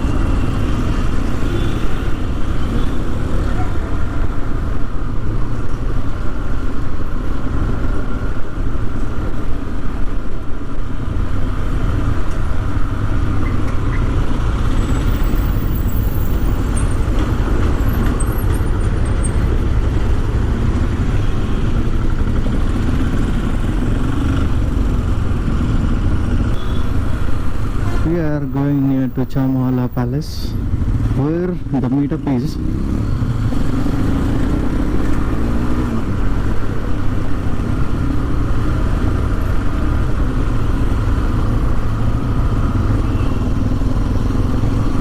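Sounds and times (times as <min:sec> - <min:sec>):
surrounding traffic: 0:00.0 - 0:45.0.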